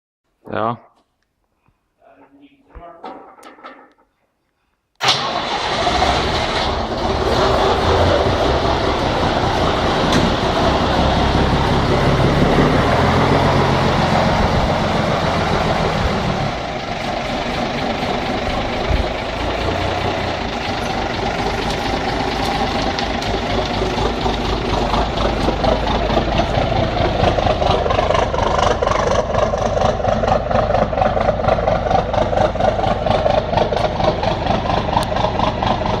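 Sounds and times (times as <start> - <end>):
diesel truck engine running: 5.0 - 36.0.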